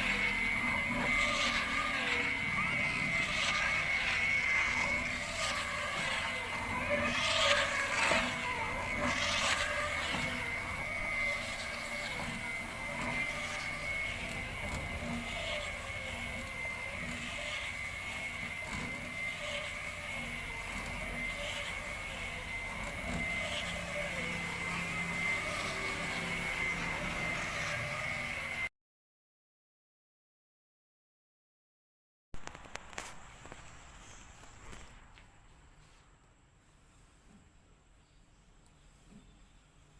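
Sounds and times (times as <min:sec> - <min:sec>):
machine high whine and motor hum: 0:00.0 - 0:28.7, 0:32.4 - 0:39.9.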